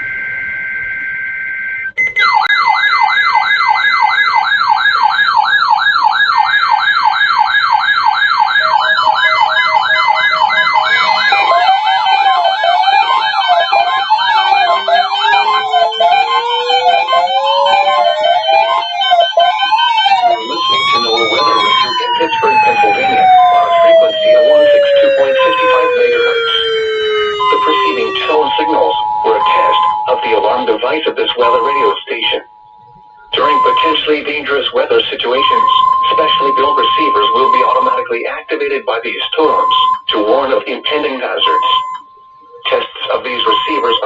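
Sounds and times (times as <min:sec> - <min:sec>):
electronic siren tones: 0:00.0 - 0:44.0
data tones: 0:08.5 - 0:44.0.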